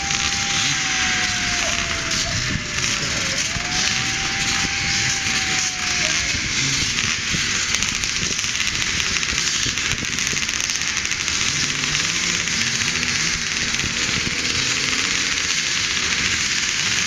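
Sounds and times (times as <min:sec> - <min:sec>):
motocross motorcycles revving: 0:00.0 - 0:17.0.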